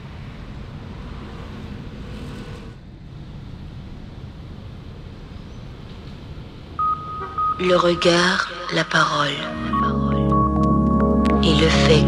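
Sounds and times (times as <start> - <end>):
low rumble of city traffic: 0.0 - 12.0.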